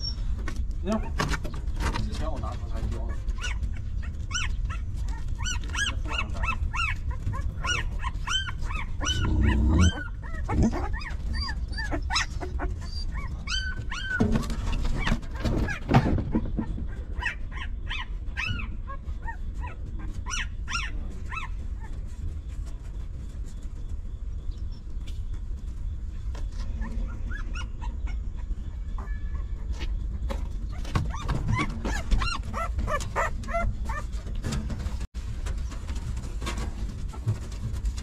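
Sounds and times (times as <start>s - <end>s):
puppies whimpering and squeaking: 0.0s - 25.0s, 26.1s - 35.0s.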